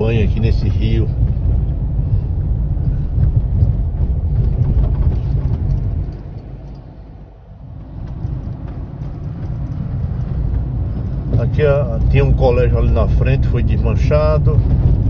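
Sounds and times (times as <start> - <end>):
engine and road rumble: 0.0 - 15.0
light rattling: 0.0 - 15.0.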